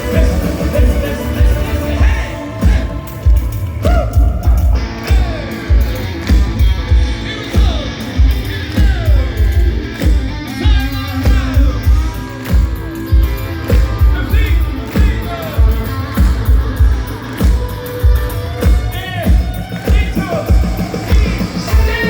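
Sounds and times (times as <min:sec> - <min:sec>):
heavy kick drum beat: 0:00.0 - 0:22.0
live band playing synth-pop: 0:00.0 - 0:22.0.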